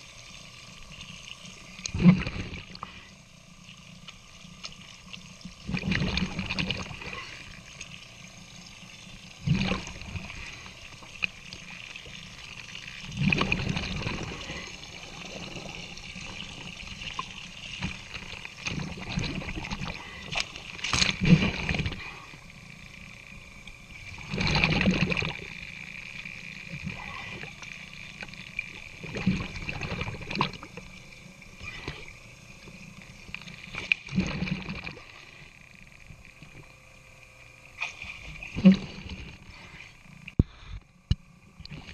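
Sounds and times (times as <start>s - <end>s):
faint high whine: 0.0s - 41.9s.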